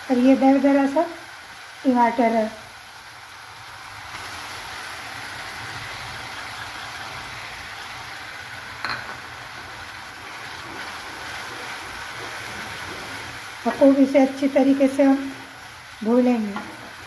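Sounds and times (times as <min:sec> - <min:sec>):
tomato sizzling in hot oil: 0:00.0 - 0:17.0.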